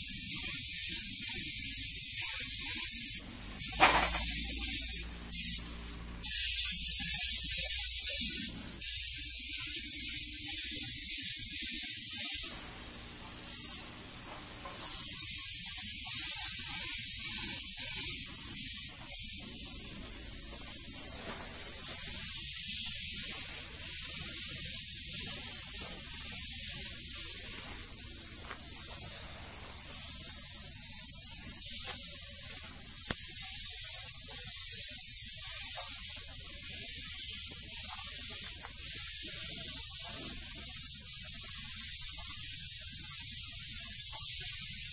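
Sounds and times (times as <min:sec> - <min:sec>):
paint spray gun hissing: 0:00.0 - 0:44.9.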